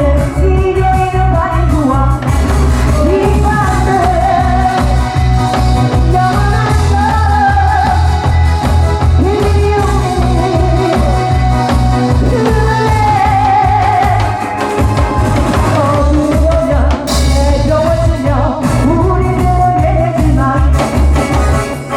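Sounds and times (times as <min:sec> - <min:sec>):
person singing: 0:00.0 - 0:21.0
backing track with heavy bass beat: 0:00.0 - 0:21.9.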